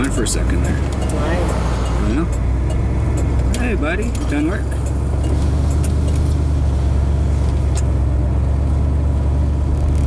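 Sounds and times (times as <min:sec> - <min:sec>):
truck engine and road drone: 0:00.0 - 0:10.0.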